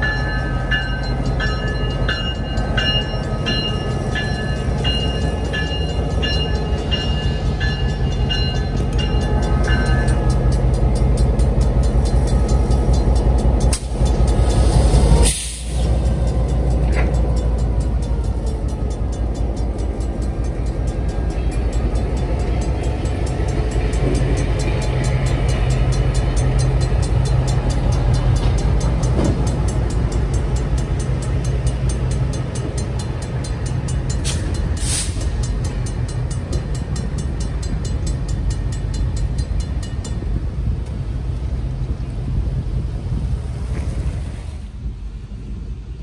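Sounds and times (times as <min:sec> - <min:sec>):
locomotive engine rumble: 0:00.0 - 0:46.0.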